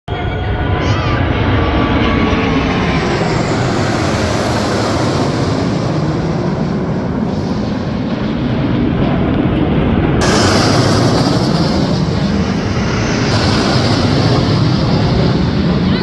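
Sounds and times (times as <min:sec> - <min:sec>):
jet engine roar: 0:00.1 - 0:16.0.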